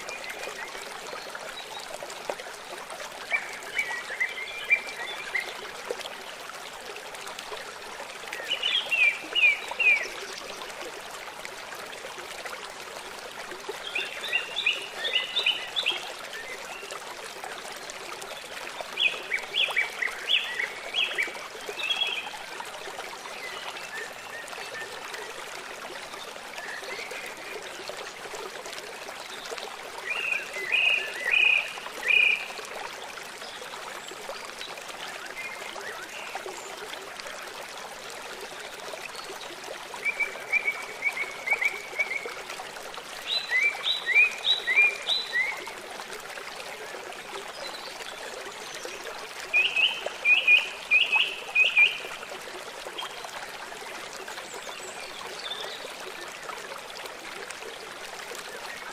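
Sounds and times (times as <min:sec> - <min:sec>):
stream flowing: 0:00.0 - 0:58.9.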